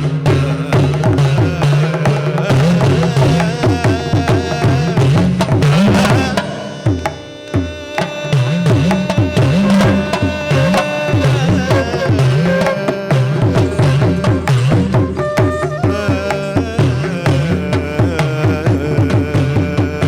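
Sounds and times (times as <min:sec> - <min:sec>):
hand drum strokes: 0:00.0 - 0:19.8.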